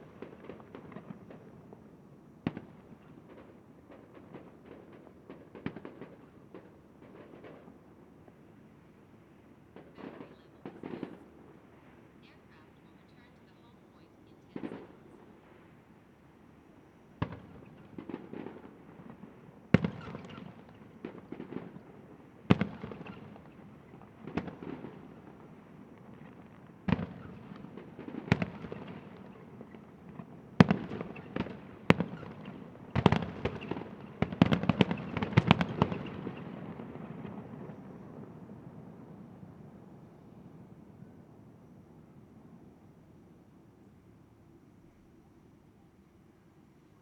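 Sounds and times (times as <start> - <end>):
fireworks bursting with bangs: 0.0 - 8.4, 9.7 - 15.7, 17.2 - 40.8
crackling firework bursts: 0.0 - 15.9, 17.2 - 41.5.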